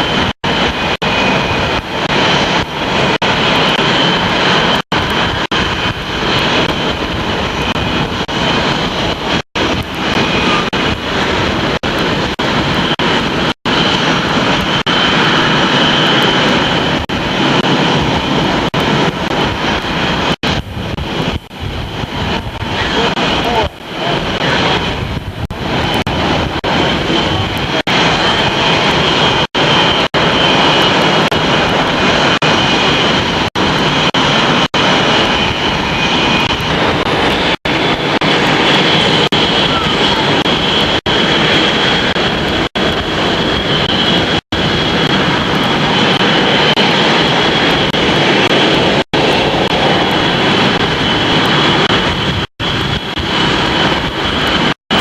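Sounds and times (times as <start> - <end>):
aircraft engine roaring: 0.0 - 55.0
high engine whine: 0.0 - 55.0.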